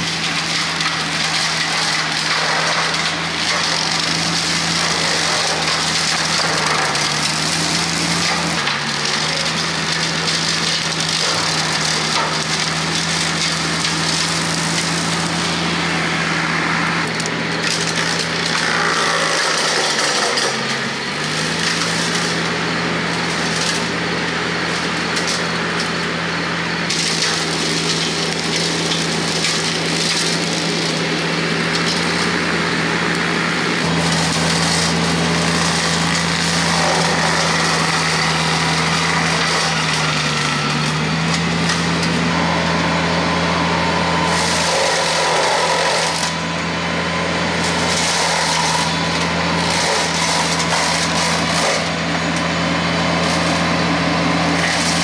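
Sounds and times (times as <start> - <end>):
tractor engine drone: 0.0 - 55.0
wood splintering and crackling: 0.0 - 55.0.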